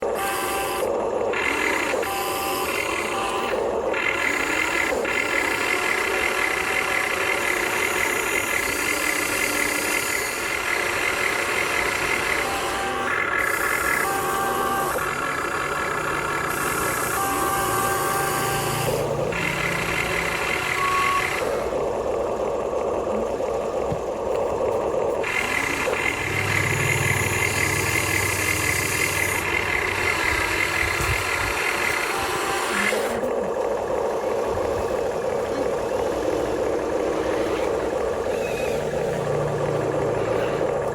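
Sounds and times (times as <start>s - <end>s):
toy electric motors whining: 0.0s - 40.9s.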